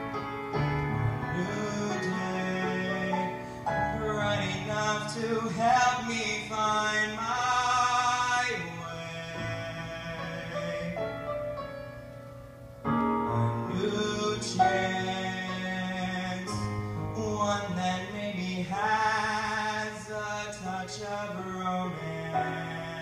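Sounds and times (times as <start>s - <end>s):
musical accompaniment: 0.0s - 23.0s.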